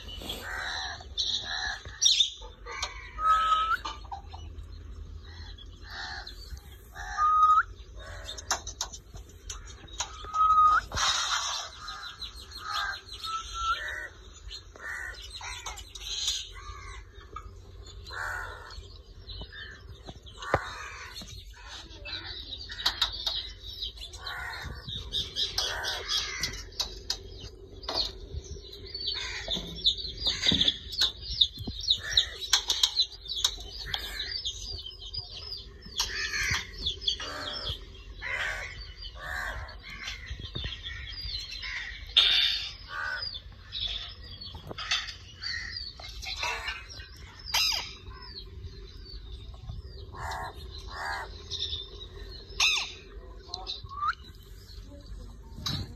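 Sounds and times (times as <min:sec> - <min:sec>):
parrot chirping and squawking: 0:00.0 - 0:04.5, 0:05.3 - 0:17.4, 0:22.7 - 0:27.2, 0:28.9 - 0:43.8, 0:44.7 - 0:49.2, 0:50.1 - 0:54.8.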